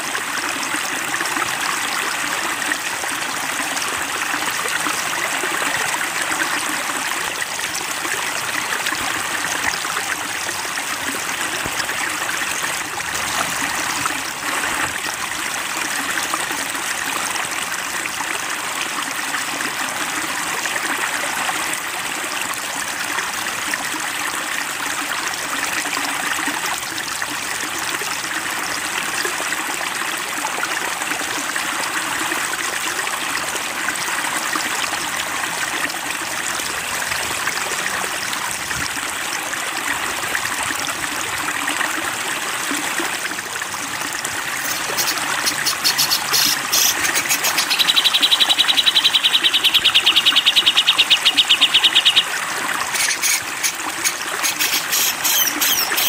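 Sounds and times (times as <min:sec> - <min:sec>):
stream water trickling and splashing: 0:00.0 - 0:56.0.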